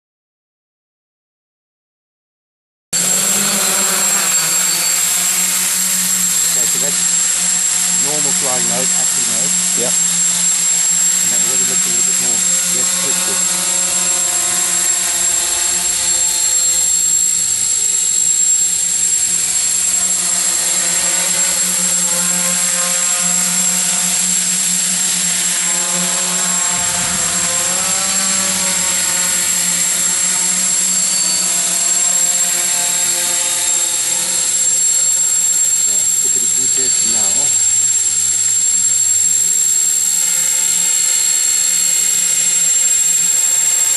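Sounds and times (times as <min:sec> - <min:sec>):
drone propellers buzzing: 0:03.0 - 0:43.9
high-pitched motor whine: 0:03.0 - 0:43.9.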